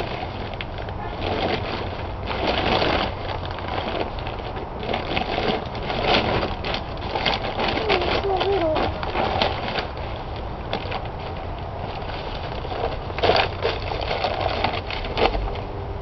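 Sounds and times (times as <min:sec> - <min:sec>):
hands digging through soil: 0:00.0 - 0:15.5
bag rustling and crumpling: 0:00.0 - 0:15.7.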